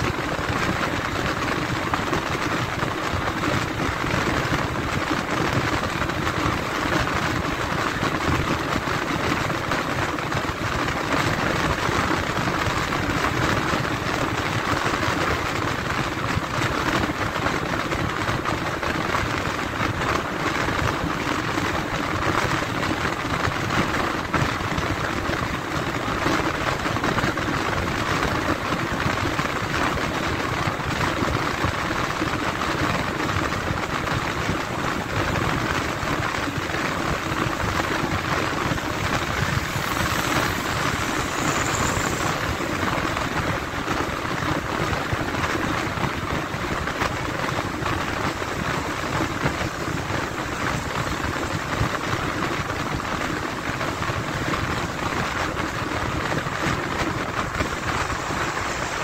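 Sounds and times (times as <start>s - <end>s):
vehicle road noise: 0.0s - 59.0s.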